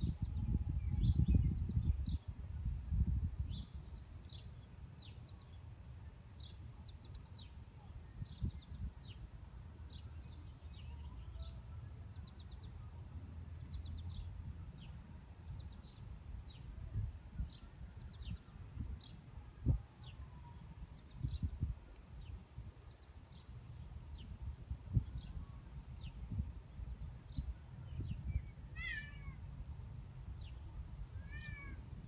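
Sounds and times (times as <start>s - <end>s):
small birds chirping: 0.0s - 5.6s, 6.3s - 9.2s, 9.8s - 29.4s.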